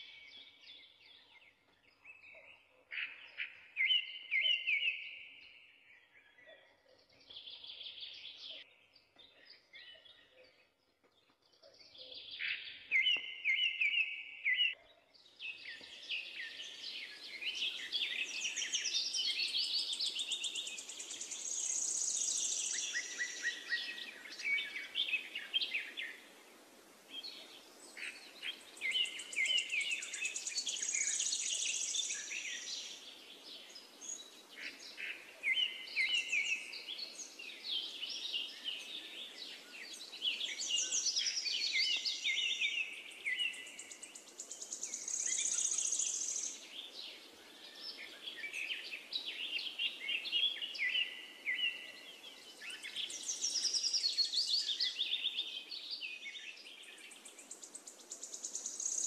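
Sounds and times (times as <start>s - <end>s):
birds singing chirps and trills: 0.0s - 59.0s.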